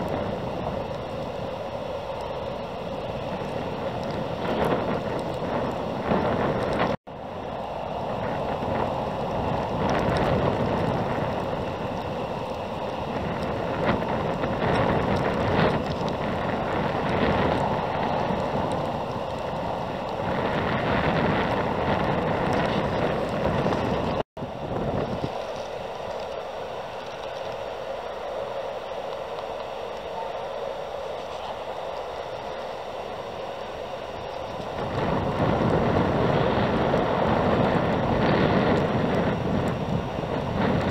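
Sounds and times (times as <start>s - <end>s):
gusty wind buffeting microphone: 0.0s - 40.9s.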